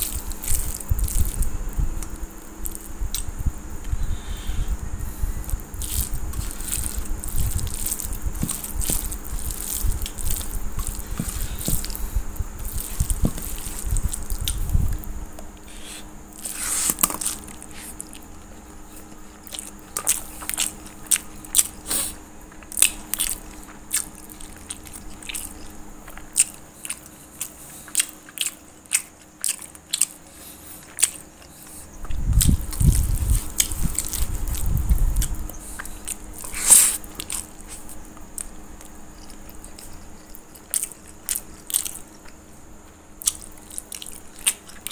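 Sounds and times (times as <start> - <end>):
person chewing and smacking: 0.0 - 44.9.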